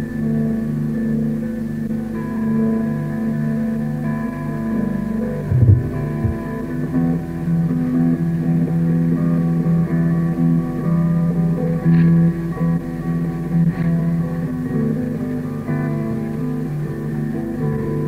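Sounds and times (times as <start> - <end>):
lo-fi droning guitar music: 0.0 - 18.0.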